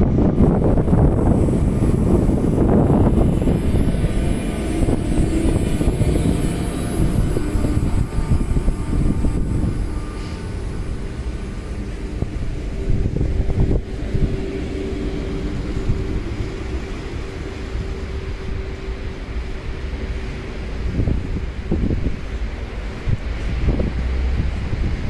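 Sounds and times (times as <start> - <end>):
steady hum: 0.0 - 25.0
train rumbling past: 0.0 - 25.0.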